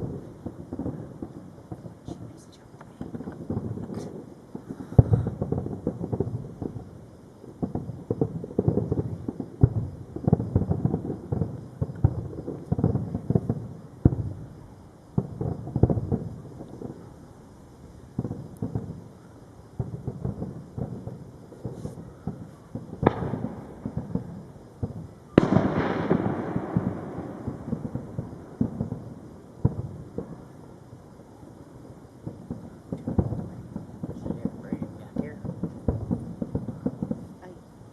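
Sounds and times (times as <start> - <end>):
loud firework bangs: 0.0 - 17.1, 18.1 - 37.6
distant fireworks booming: 0.0 - 37.9.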